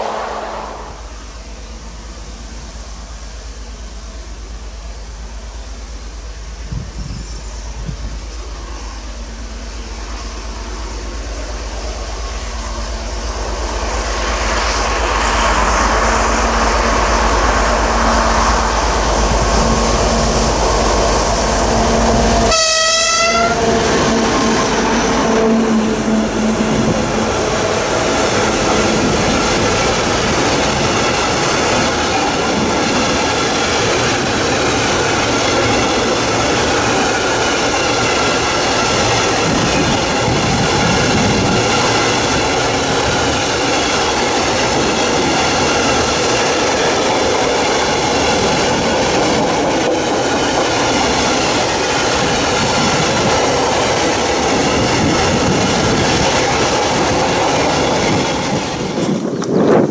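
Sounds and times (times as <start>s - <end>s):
diesel locomotive under load: 0.0s - 59.9s.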